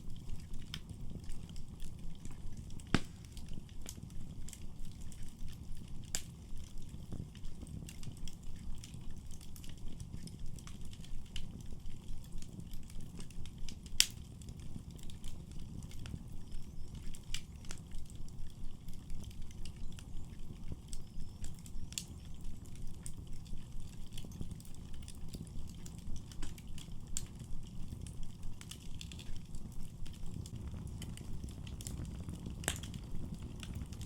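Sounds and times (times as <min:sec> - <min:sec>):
fire crackles and pops: 0:00.0 - 0:34.0
fire flames rumbling: 0:00.0 - 0:34.0.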